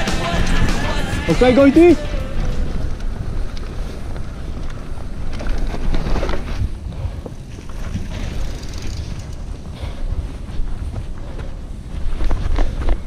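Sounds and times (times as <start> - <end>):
mountain bike rumble and rattle: 0.0 - 13.0
wind buffeting microphone: 1.3 - 13.0.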